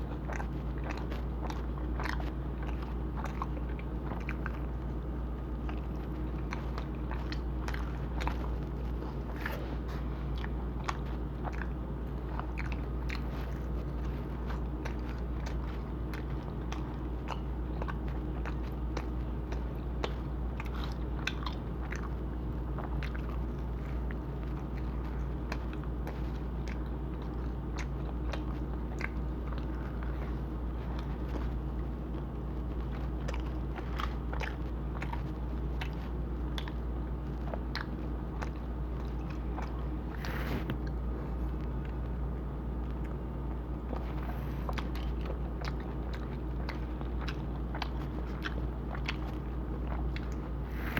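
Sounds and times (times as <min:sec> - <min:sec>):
person chewing pizza with crunches: 0:00.0 - 0:50.9
steady low hum: 0:00.0 - 0:50.9.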